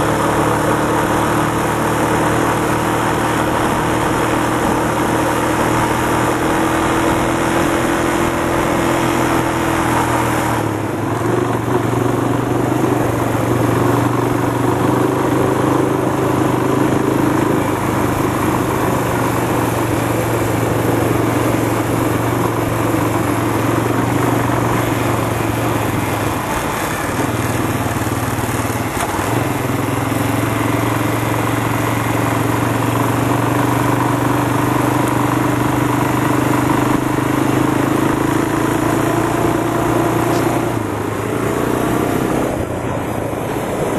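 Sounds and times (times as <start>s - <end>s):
constant rushing noise: 0.0s - 43.9s
quad bike engine running: 0.0s - 43.9s.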